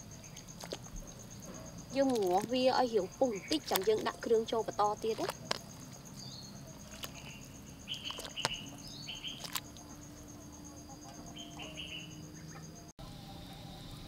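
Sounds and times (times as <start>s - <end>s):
pulsing insect trill: 0.0s - 14.0s
small birds chirping: 0.1s - 12.9s.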